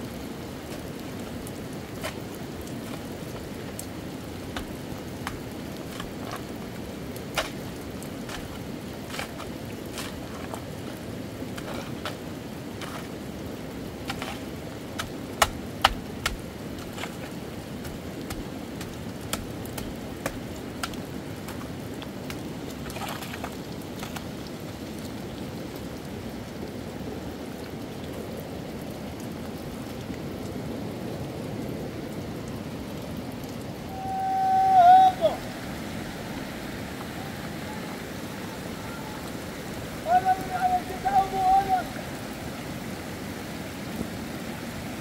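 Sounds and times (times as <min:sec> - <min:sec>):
raindrops tapping a surface: 0:00.0 - 0:43.0, 0:43.8 - 0:44.7
steady rain: 0:00.0 - 0:45.0.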